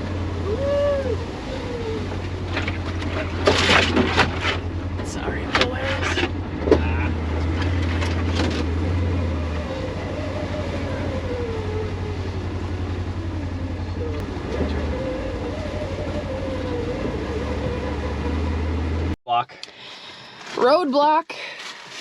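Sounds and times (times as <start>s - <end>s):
engine whine: 0.0s - 20.5s
utility vehicle engine hum: 0.0s - 20.8s.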